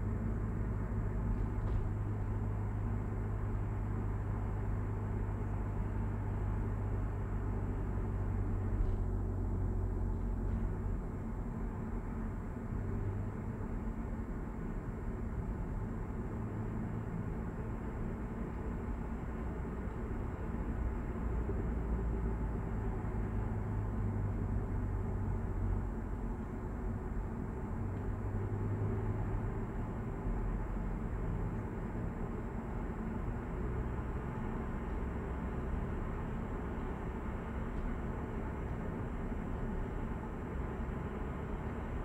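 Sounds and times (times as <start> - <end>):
in-cabin road noise rumble: 0.0 - 42.0.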